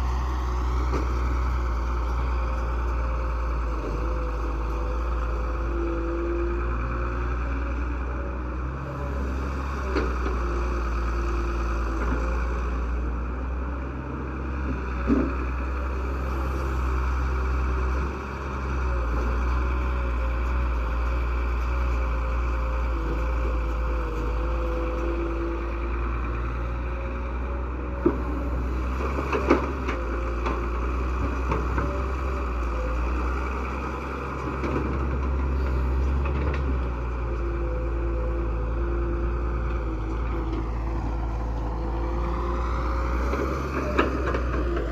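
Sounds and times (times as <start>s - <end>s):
diesel tractor engines running: 0.0s - 44.9s.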